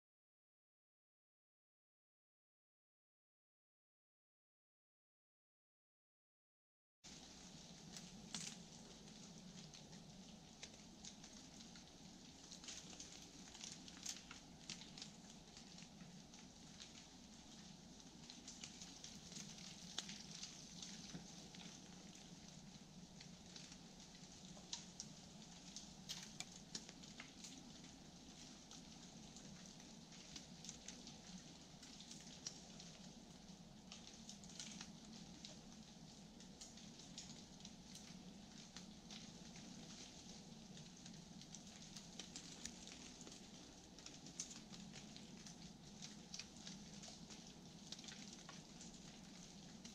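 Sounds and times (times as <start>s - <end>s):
light ticks and crackles: 7.1s - 49.9s.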